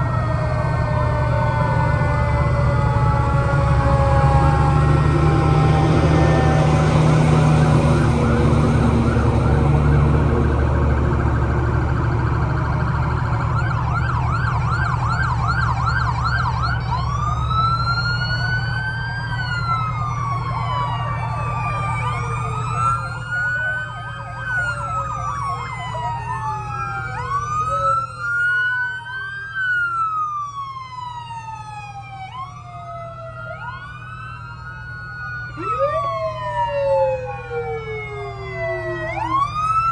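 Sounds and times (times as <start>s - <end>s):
fast yelping siren: 0.0s - 10.8s, 12.3s - 39.9s
fire engine rumbling: 0.0s - 39.9s
wailing sirens: 0.0s - 39.9s.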